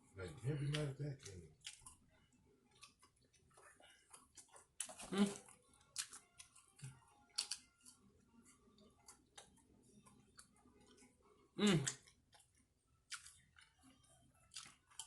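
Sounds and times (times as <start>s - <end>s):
chewing: 0.3s - 15.0s.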